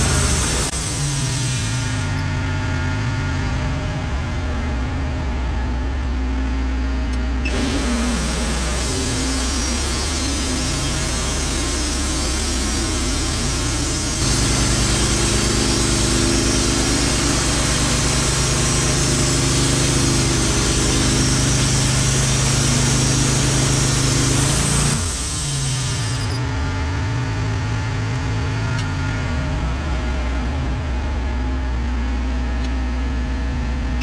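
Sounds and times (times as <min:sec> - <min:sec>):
sawmill engine running: 0:00.0 - 0:32.6.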